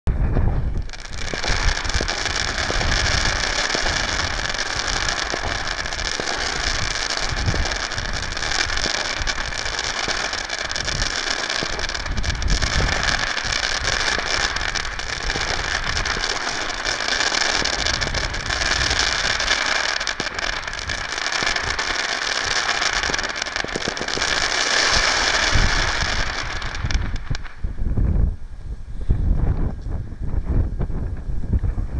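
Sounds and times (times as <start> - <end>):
fireworks hiss and crackle: 0.1 - 31.9.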